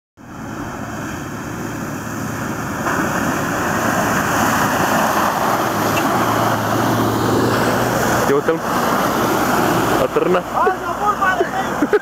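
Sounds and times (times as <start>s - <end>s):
engine running under load: 0.2s - 12.0s
tyres splashing water: 0.2s - 12.0s.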